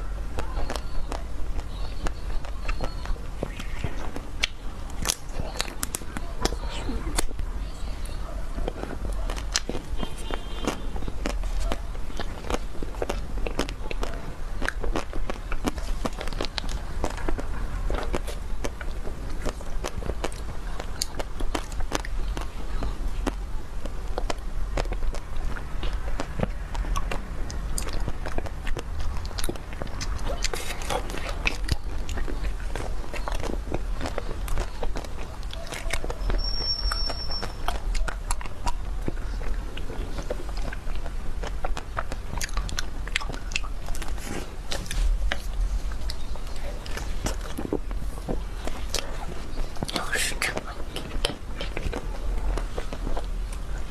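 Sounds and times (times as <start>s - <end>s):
biting and chewing: 0.0s - 53.9s
steady low hum: 0.0s - 53.9s
chocolate shell crunching: 8.6s - 53.9s.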